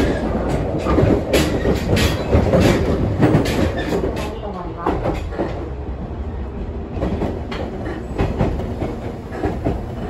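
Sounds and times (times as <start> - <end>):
train interior rumble: 0.0 - 10.0.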